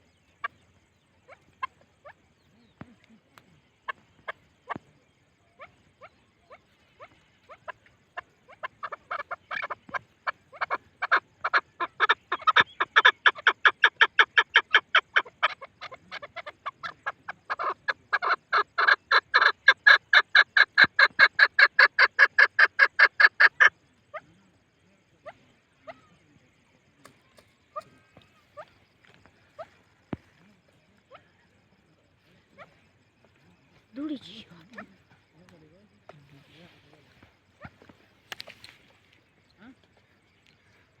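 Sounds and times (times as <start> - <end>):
partridge clucking calls: 0.0 - 24.3, 27.0 - 41.0.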